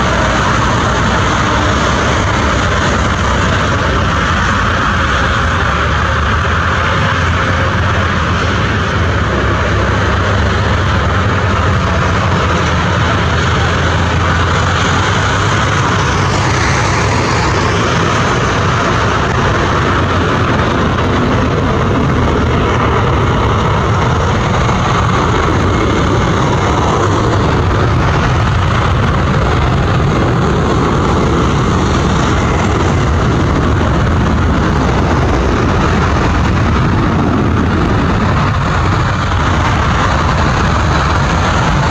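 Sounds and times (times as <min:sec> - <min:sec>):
jet engines roaring on takeoff: 0:00.0 - 0:41.9.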